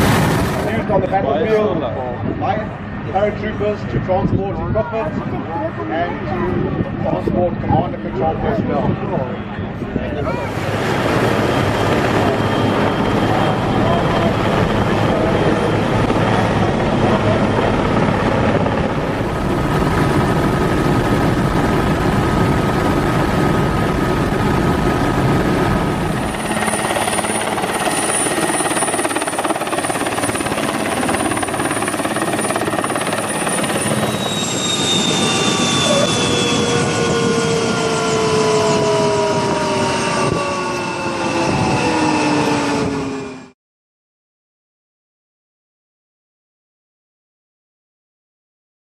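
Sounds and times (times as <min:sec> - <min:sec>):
helicopter engines and rotors: 0:00.0 - 0:43.6.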